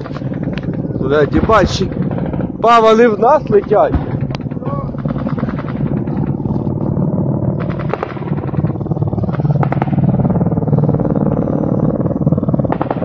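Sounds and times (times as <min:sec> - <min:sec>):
helicopter rotors chopping: 0:00.0 - 0:13.0
low engine drone: 0:00.0 - 0:13.0
sharp cracks: 0:00.0 - 0:13.0.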